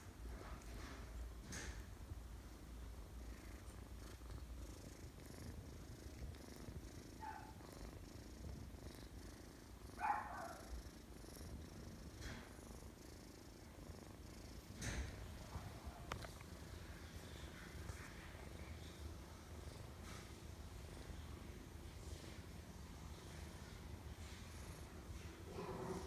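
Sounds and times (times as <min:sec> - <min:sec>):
cat purring: 0:00.2 - 0:26.0.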